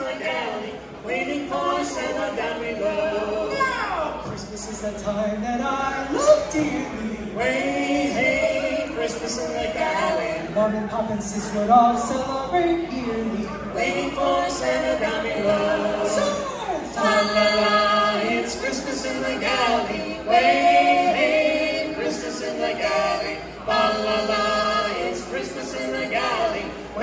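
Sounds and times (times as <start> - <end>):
a cappella group singing: 0.0 - 27.0.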